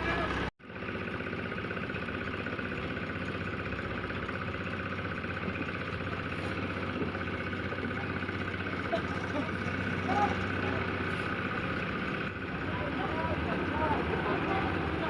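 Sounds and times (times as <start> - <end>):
cement mixer engine running: 0.0 - 15.0.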